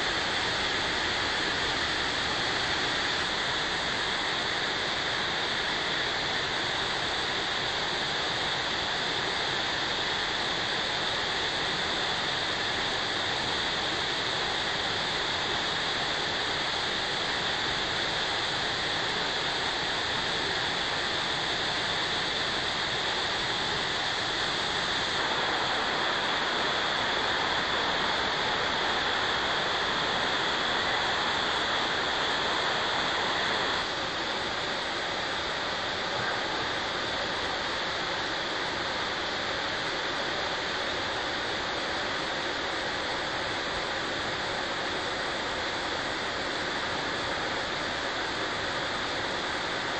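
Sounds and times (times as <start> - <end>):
waterfall rushing over rock: 0.0 - 49.9.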